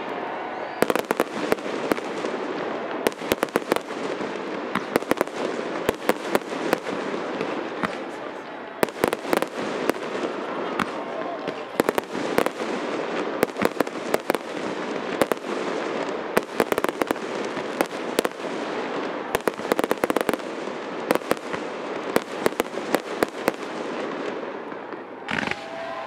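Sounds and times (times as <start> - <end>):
fireworks pops and bangs: 0.8 - 25.8.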